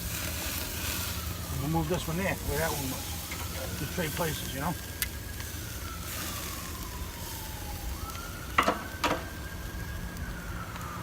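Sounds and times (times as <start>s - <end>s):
steaks sizzling on a grill: 0.0s - 10.8s
siren wailing: 0.6s - 11.0s.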